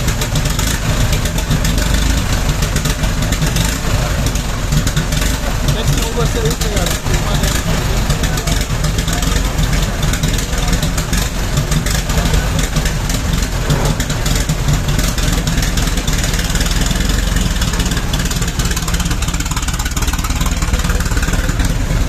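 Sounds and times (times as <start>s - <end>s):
old car engine pulsing: 0.0s - 22.0s.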